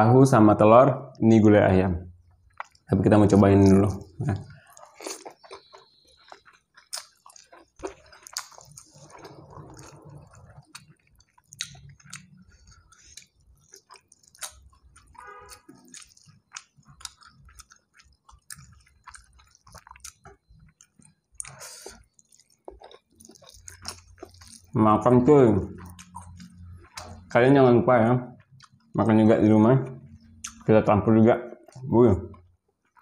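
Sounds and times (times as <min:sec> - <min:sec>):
person chewing food: 0:02.2 - 0:27.4, 0:28.3 - 0:29.0, 0:31.6 - 0:33.0.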